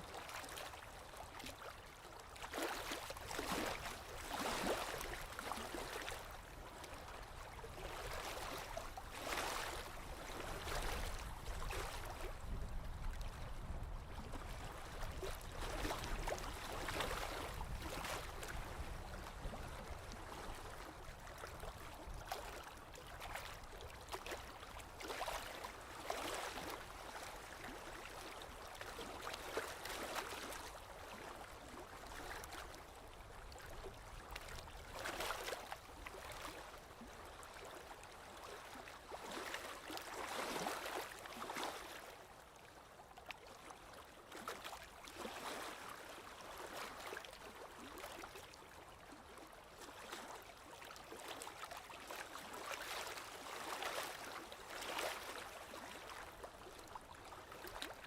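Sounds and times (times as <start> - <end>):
lake waves lapping on shore: 0.0 - 58.0.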